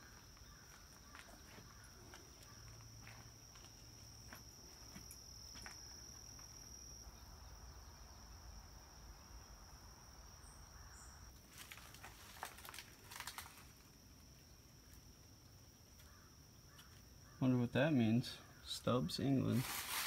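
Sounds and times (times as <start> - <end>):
insect trilling: 0.0 - 9.5, 10.2 - 20.0.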